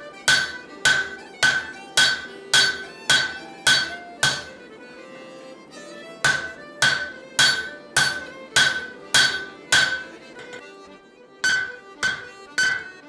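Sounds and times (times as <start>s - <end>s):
hammer blows on hot steel: 0.0s - 4.6s, 6.2s - 10.6s, 11.4s - 13.0s.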